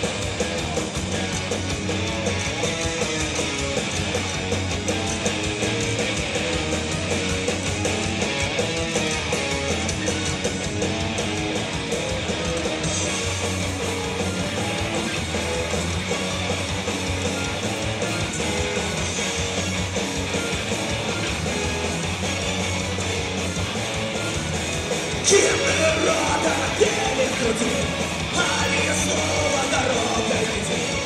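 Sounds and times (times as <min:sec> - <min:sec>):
bass guitar: 0:00.0 - 0:31.0
distorted electric guitars: 0:00.0 - 0:31.0
drums with cymbals: 0:00.0 - 0:31.0.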